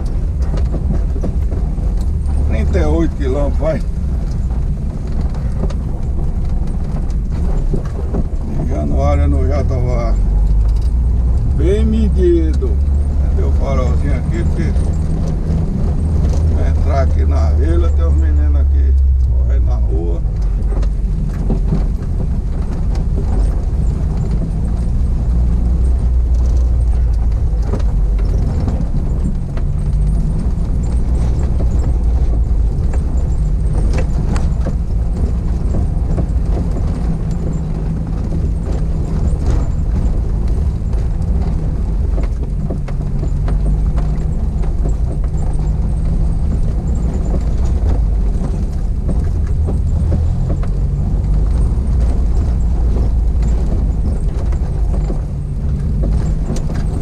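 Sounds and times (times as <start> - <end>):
car engine running: 0.0 - 57.0
road noise rumble: 0.0 - 57.0
short knocks and rattles: 0.0 - 57.0.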